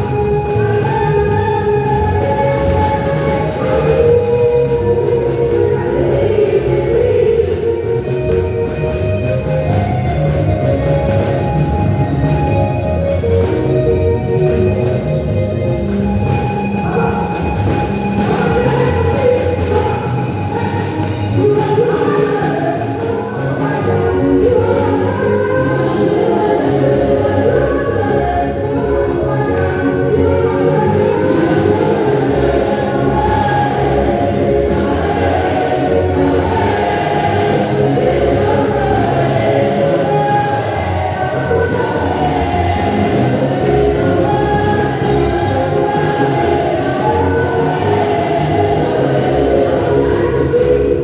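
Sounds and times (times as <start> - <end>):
choir singing gospel song: 0.0 - 51.0
live band with bass and drums: 0.0 - 51.0.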